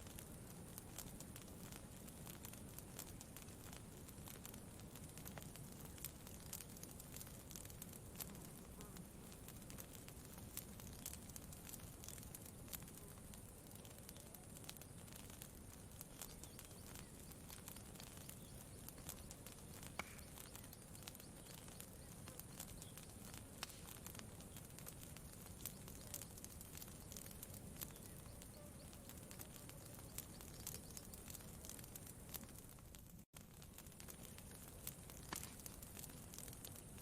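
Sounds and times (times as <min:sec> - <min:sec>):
campfire crackling: 0:00.0 - 0:37.0
sharp fire pops: 0:00.0 - 0:37.0.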